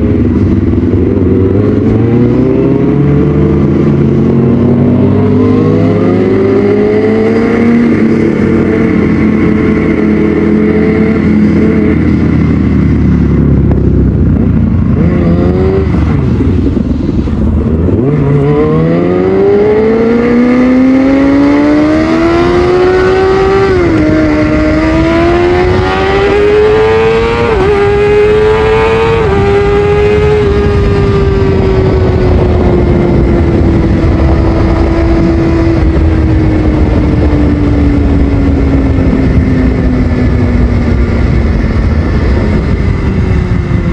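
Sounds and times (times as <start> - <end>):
motorcycle engine revving through gears: 0.0 - 43.9.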